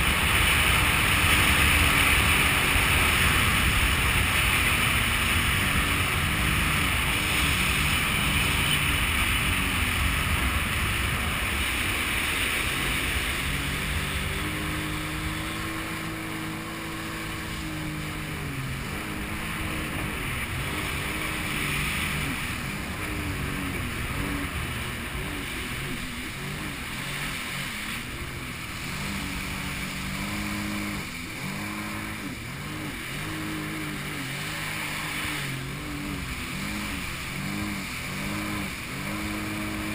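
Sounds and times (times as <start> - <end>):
jet ski engine: 0.0 - 39.9
rush of wind and water: 0.0 - 39.9.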